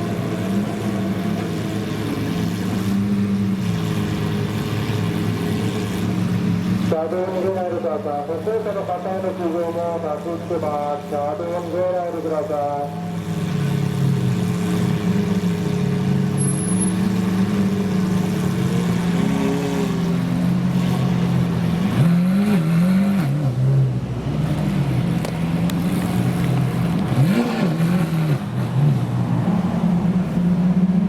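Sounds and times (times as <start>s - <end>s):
car engines idling and revving: 0.0s - 31.0s.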